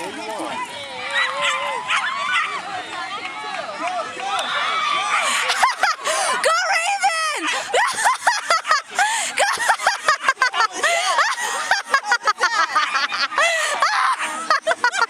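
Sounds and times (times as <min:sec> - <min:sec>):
crowd shouting and cheering: 0:00.0 - 0:15.0.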